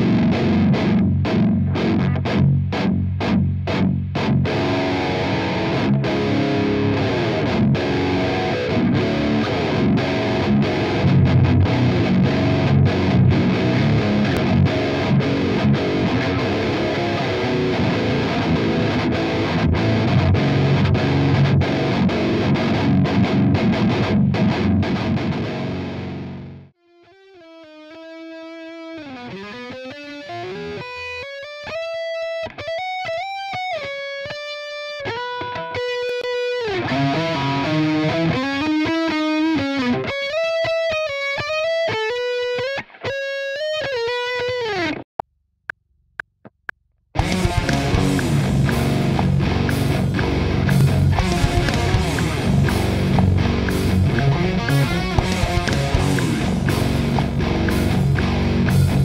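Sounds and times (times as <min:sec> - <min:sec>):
single-note guitar lead: 0:00.0 - 0:42.9, 0:47.2 - 0:59.0
distorted electric guitar riff: 0:00.0 - 0:45.1, 0:47.2 - 0:59.0.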